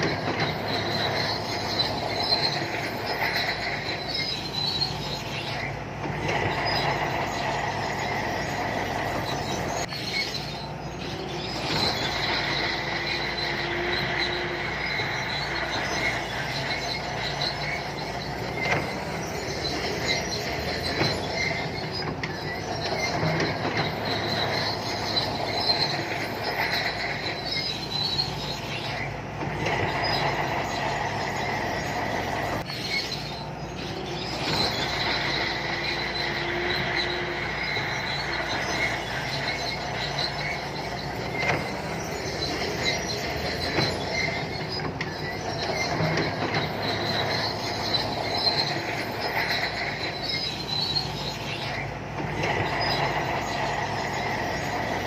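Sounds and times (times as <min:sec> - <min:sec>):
bulldozer diesel engine running: 0:00.0 - 0:55.0
steel tracks squealing and clanking: 0:00.0 - 0:55.0.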